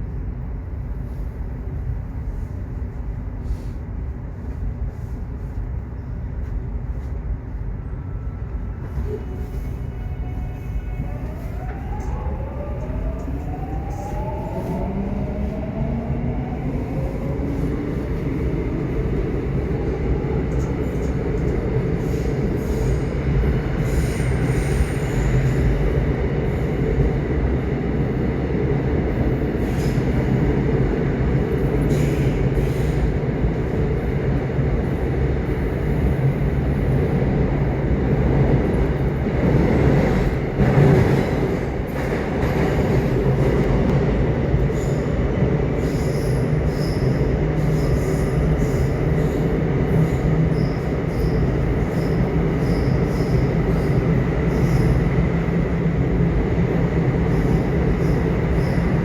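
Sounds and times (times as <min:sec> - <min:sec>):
subway train motors whining: 0:00.0 - 0:59.0
train wheels rumbling on rails: 0:00.0 - 0:59.0.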